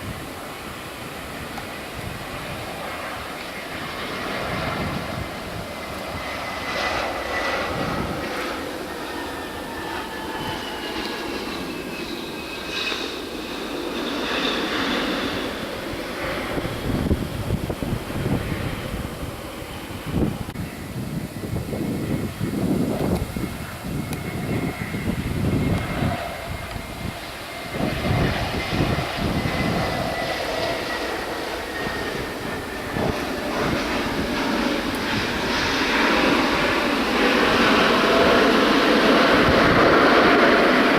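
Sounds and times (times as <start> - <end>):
jet engines passing: 0.0 - 40.9.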